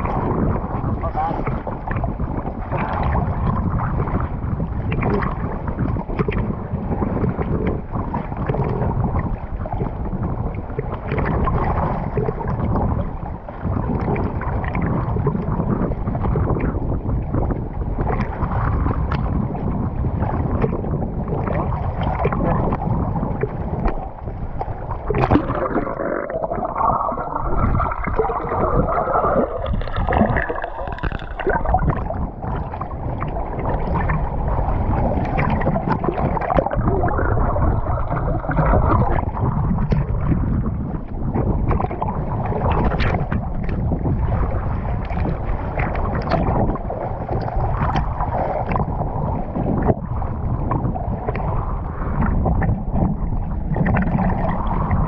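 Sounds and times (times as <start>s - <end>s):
sea water sloshing and splashing: 0.0s - 55.0s.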